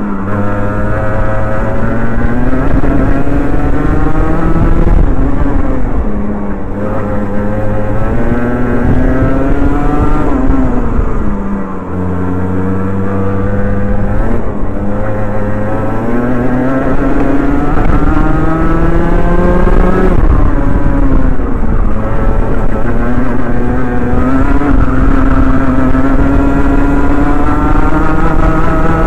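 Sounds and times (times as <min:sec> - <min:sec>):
kart engine revving: 0:00.0 - 0:29.0.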